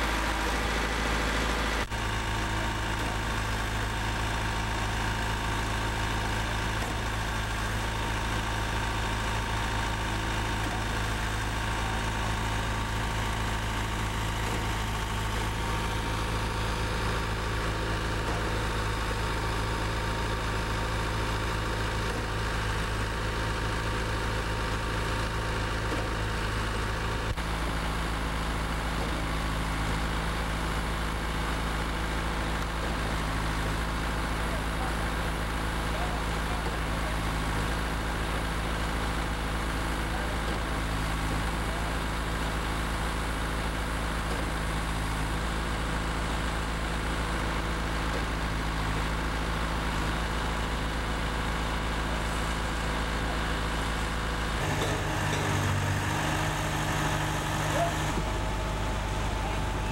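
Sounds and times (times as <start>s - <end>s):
concrete pump engine running: 0.0s - 59.9s.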